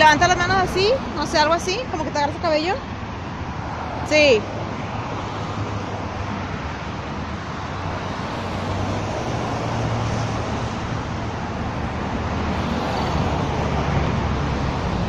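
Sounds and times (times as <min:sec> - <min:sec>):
road traffic rumble and tyre hiss: 0:00.0 - 0:15.0.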